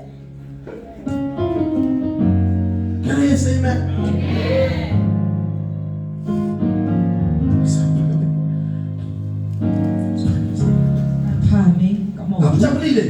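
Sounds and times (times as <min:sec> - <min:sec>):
keyboard playing sustained chords: 0:00.0 - 0:13.0.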